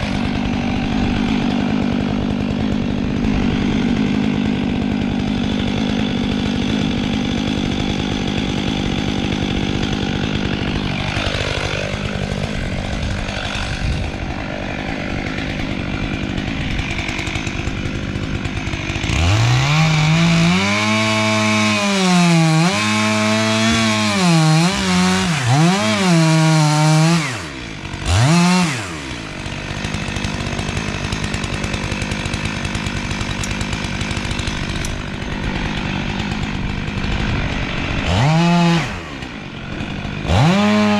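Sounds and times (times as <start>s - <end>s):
chainsaw running: 0.0s - 40.9s.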